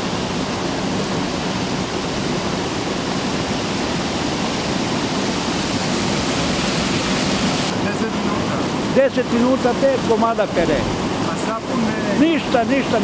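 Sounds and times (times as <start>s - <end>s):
water rushing and churning in tub: 0.0s - 11.8s.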